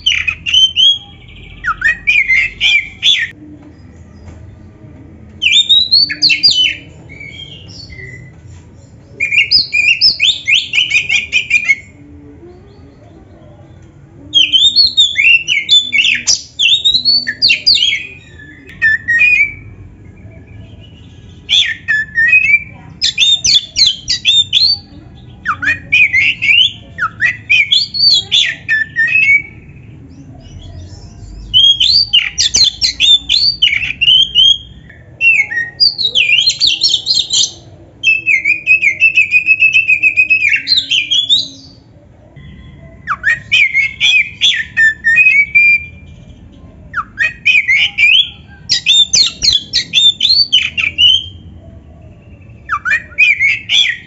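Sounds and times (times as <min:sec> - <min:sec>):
bird singing: 0:00.0 - 0:04.6, 0:05.4 - 0:41.8, 0:42.4 - 0:54.0.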